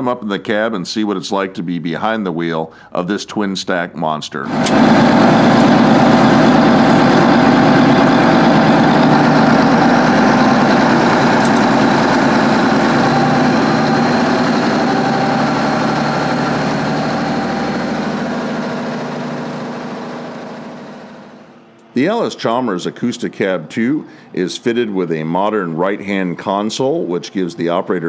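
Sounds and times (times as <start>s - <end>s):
tractor engine running: 4.4s - 27.5s
thin high whine: 4.5s - 28.0s.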